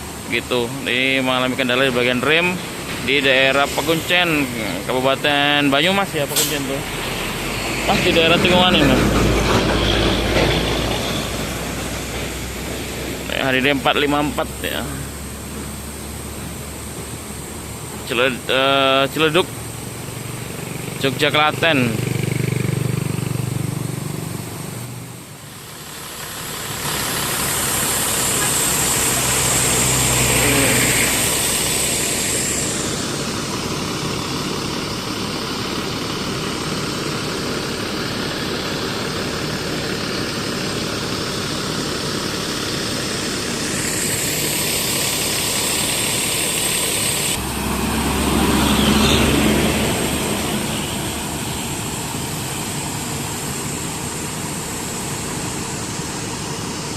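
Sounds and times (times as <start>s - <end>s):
diesel bus engine idling: 0.0s - 56.9s.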